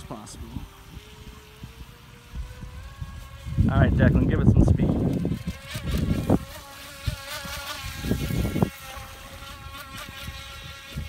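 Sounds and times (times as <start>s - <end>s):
rc boat motor whining: 0.0s - 11.0s.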